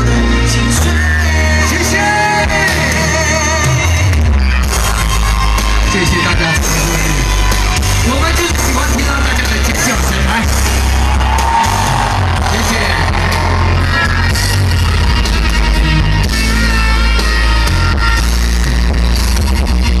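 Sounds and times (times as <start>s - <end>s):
loud live rock music: 0.0s - 20.0s.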